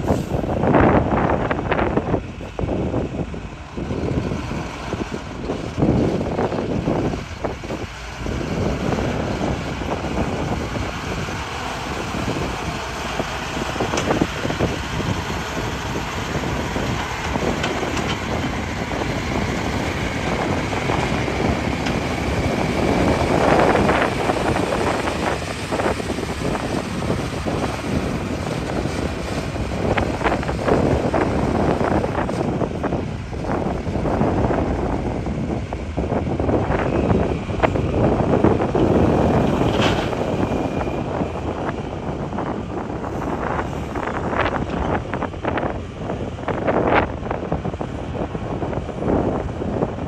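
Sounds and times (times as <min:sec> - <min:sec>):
excavator engine under load: 0:00.0 - 0:50.0.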